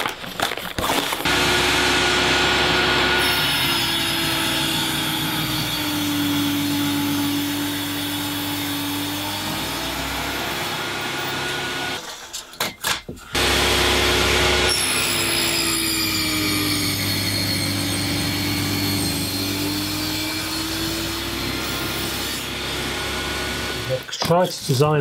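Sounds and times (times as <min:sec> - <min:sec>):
electric jigsaw cutting wood: 0:01.0 - 0:12.1, 0:13.3 - 0:24.8.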